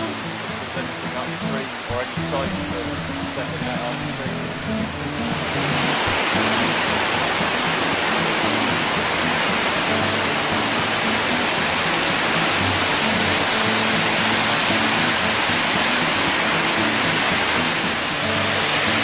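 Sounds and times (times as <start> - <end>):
faint background music: 0.0 - 19.0
river water rushing over weir: 0.0 - 19.0.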